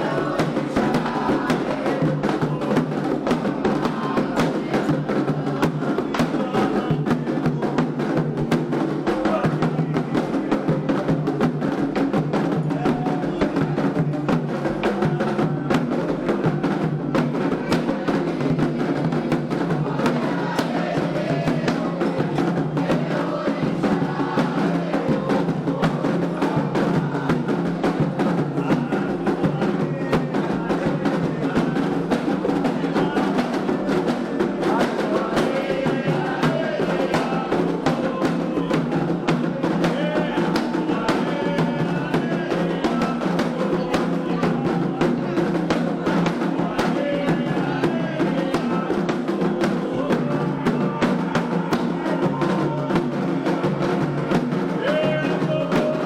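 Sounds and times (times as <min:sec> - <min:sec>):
hand drums beating fast rhythm: 0:00.0 - 0:56.0.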